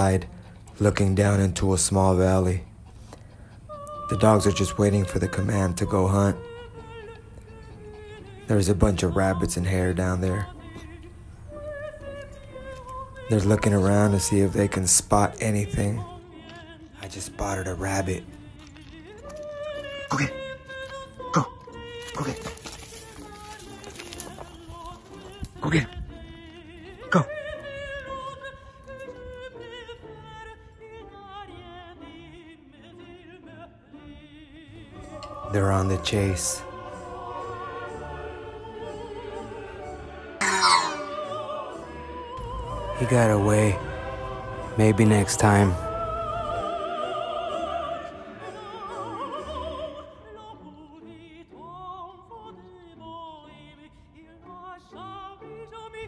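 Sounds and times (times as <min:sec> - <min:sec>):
operatic voice singing: 0:00.0 - 0:02.7, 0:03.7 - 0:56.0.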